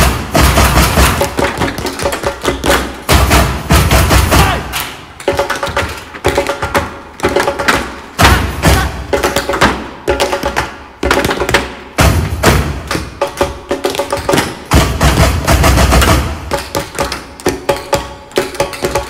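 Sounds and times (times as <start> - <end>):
rhythmic stamping: 0.0 - 19.0.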